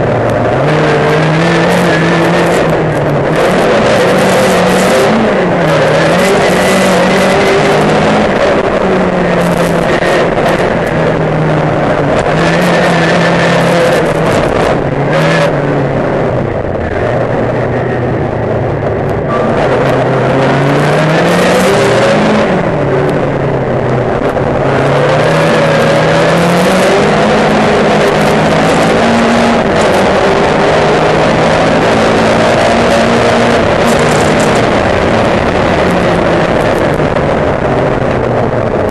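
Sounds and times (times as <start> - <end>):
racing car engine accelerating: 0.0 - 38.9
wind and road noise: 0.0 - 38.9.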